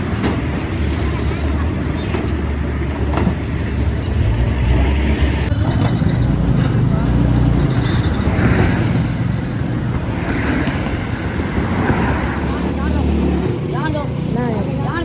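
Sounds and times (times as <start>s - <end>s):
background voices: 0.0s - 15.0s
low engine rumble: 0.0s - 15.0s.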